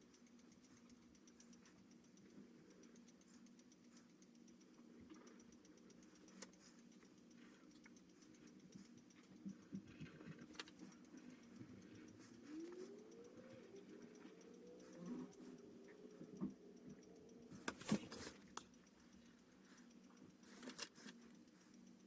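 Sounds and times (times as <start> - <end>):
low steady hum: 0.0 - 22.0
pen drawing on paper: 0.4 - 21.5.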